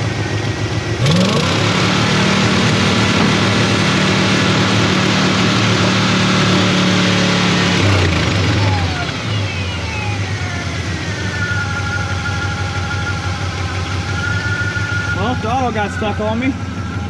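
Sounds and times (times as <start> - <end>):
pickup engine fast idling: 0.0 - 17.0.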